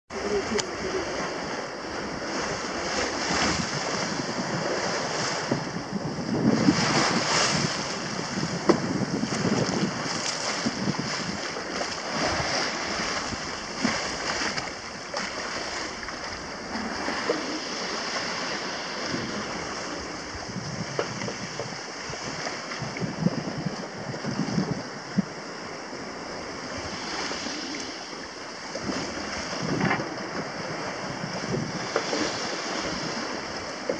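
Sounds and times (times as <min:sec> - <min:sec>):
water splashing along a hull: 0:00.1 - 0:33.9
wind on microphone: 0:00.1 - 0:33.9.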